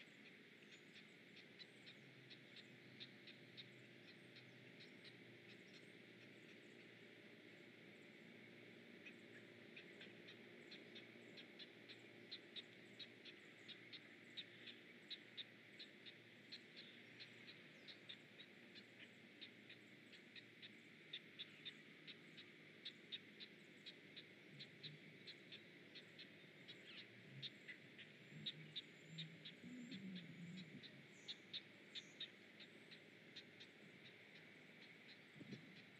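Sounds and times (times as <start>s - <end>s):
heron chicks ticking begging calls: 0.0s - 35.9s
low steady hum: 0.0s - 35.9s.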